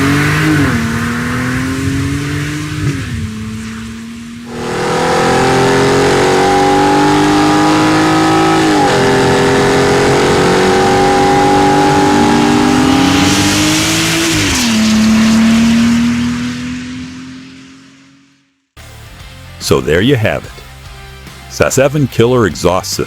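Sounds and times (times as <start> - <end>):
car engine accelerating: 0.0 - 18.7.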